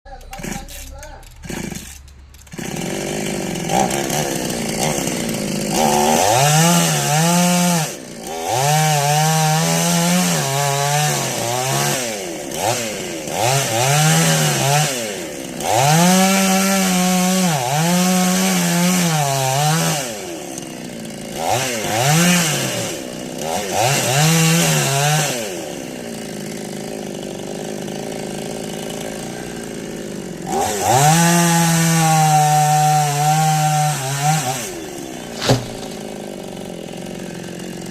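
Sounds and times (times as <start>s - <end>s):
chainsaw cutting wood: 0.1s - 37.9s.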